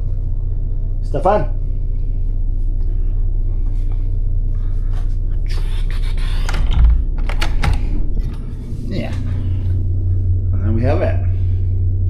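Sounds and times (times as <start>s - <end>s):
boat machinery humming: 0.0s - 12.0s.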